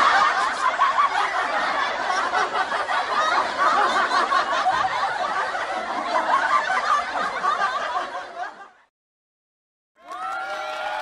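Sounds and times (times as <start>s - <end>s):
audience laughing: 0.0s - 8.9s.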